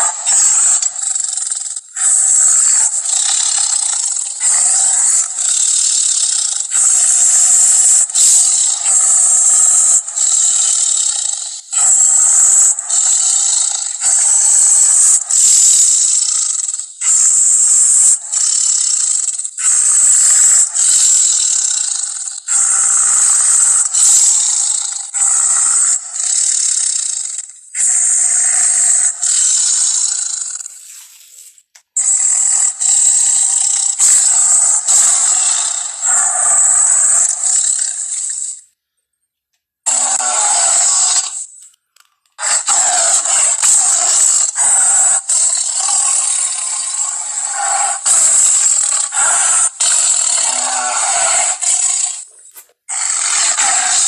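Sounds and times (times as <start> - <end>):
creature screeches and rasps: 0.0 - 38.6, 39.9 - 41.6, 42.4 - 54.0.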